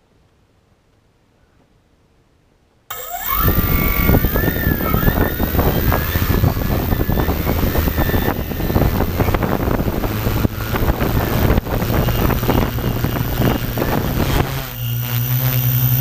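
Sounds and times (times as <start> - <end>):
drone motors humming: 2.9 - 16.0
wind buffeting microphone: 2.9 - 16.0.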